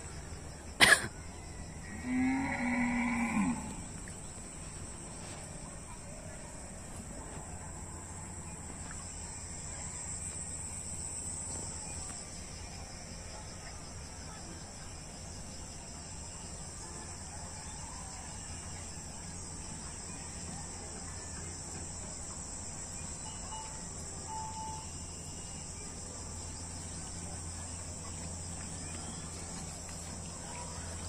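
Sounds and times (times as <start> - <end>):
crickets chirring: 0.0 - 31.0
low steady rumble: 0.0 - 31.0.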